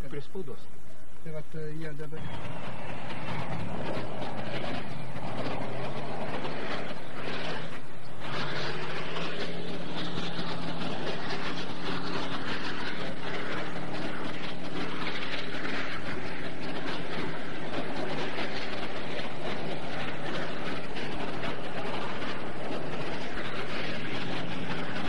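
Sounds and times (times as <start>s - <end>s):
tank engine running: 2.0s - 25.0s.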